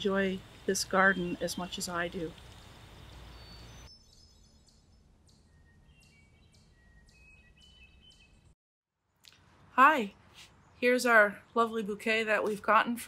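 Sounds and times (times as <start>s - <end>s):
distant birds chirping: 0.0s - 12.6s.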